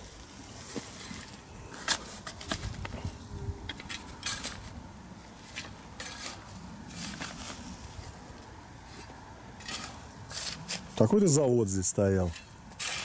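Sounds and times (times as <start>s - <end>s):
shovel scraping soil: 0.4s - 11.4s, 12.1s - 13.0s.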